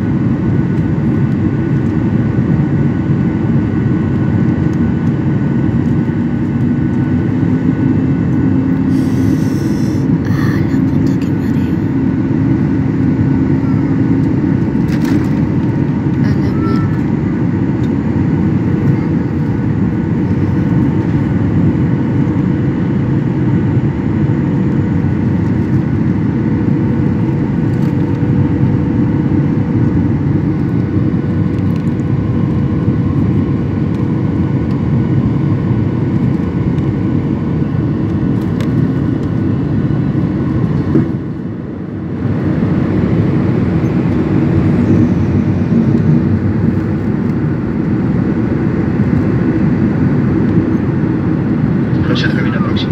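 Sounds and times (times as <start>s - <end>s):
jet engine and airflow rumble: 0.0s - 52.9s.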